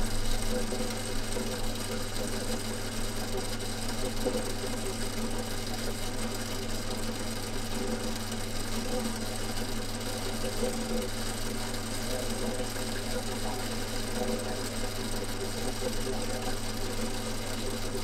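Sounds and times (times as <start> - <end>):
workshop machine motor humming: 0.0 - 18.0.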